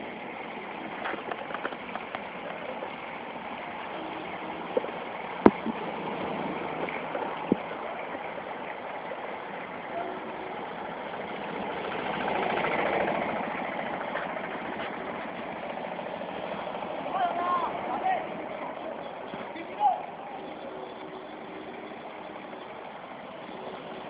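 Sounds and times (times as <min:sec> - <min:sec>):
minibus engine passing: 0:00.0 - 0:24.0
wheels pushing through floodwater: 0:00.0 - 0:24.0.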